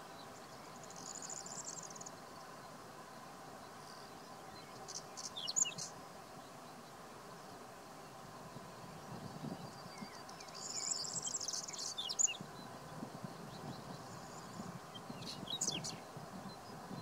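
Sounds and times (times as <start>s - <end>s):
bird singing scratchy phrases: 0.2s - 2.8s, 3.6s - 7.4s, 8.4s - 17.0s.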